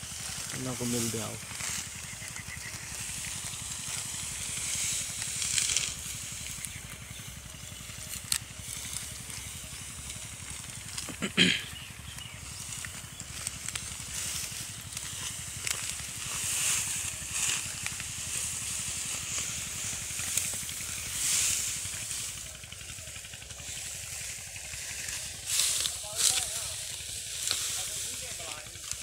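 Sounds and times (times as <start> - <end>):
dry wheat stalks rustling: 0.0 - 29.0.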